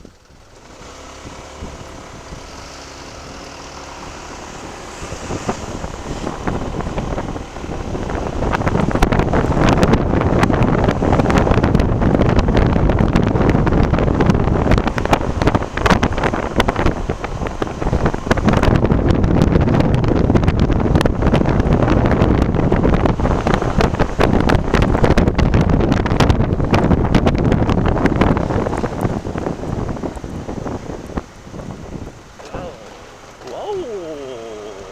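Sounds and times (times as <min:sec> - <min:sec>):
wind buffeting microphone: 0:00.0 - 0:33.7
motorcycle running: 0:00.0 - 0:34.9.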